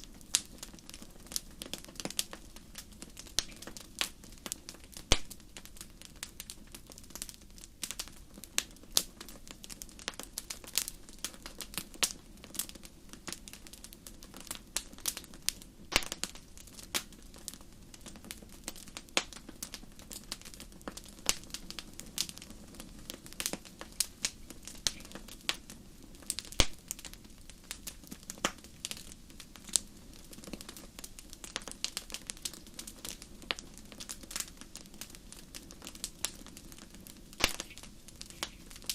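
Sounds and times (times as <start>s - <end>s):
campfire crackling and popping: 0.0s - 38.9s
low rumble of burning fire: 0.0s - 38.9s.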